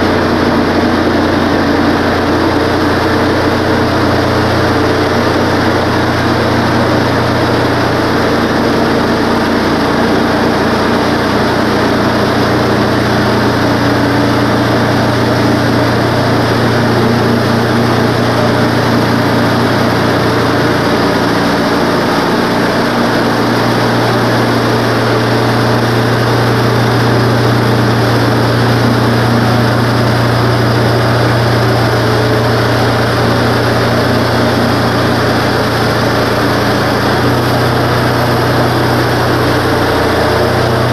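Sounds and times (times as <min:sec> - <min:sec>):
bandsaw mill sawing log: 0:00.0 - 0:40.9.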